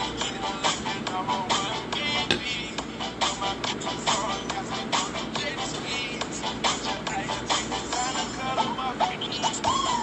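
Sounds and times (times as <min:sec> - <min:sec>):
music with steady beat and vocals: 0:00.0 - 0:10.0.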